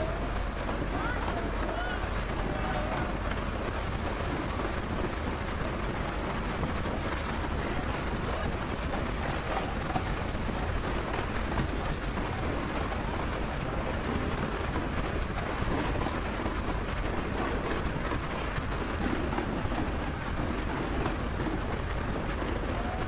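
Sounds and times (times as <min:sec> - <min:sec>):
train running rumble and rush: 0:00.0 - 0:23.0.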